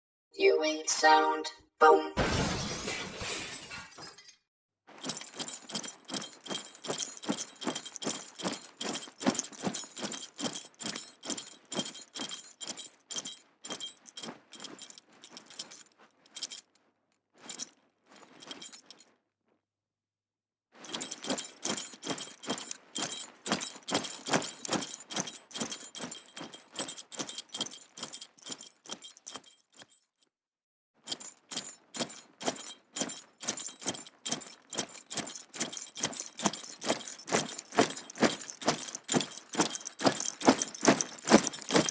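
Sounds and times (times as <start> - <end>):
horse trotting: 4.9 - 16.8, 17.4 - 19.1, 20.8 - 30.0, 31.1 - 41.9
harness metal jingling: 4.9 - 19.1, 20.8 - 30.1, 31.0 - 41.9.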